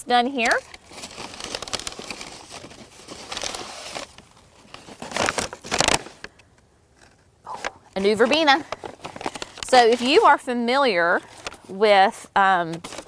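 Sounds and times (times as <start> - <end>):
packing paper crinkling: 0.1 - 6.4, 7.0 - 10.4, 11.2 - 11.8, 12.7 - 13.0.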